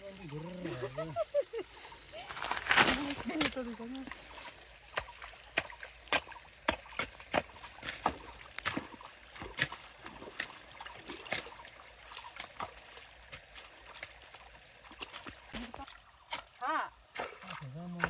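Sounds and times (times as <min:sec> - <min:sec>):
shallow water splashing: 0:00.0 - 0:18.0.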